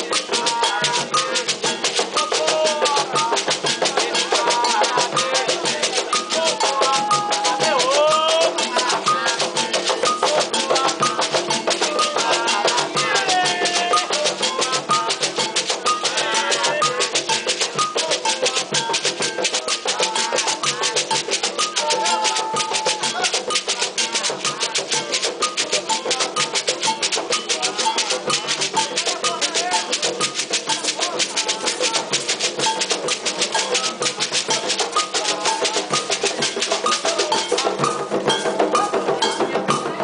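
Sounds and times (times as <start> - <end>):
group singing a chant: 0.0 - 40.0
hand drum and bell percussion: 0.0 - 40.0.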